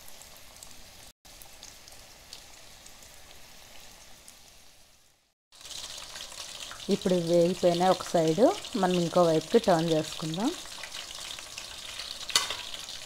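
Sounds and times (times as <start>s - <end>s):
oil bubbling and crackling: 0.0s - 13.0s.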